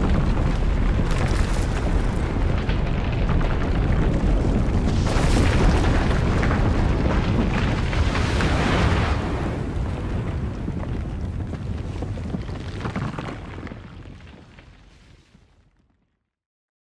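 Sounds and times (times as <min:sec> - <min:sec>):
crackling and rattling: 0:00.0 - 0:14.8
deep earthquake rumble: 0:00.0 - 0:16.1.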